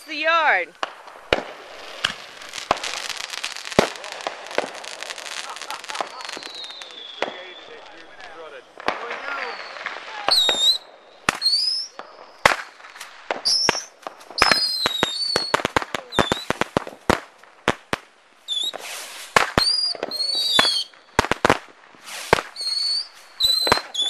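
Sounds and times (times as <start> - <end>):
rockets whistling: 0.0 - 17.0, 18.4 - 24.0
firework pops and bangs: 0.0 - 24.0.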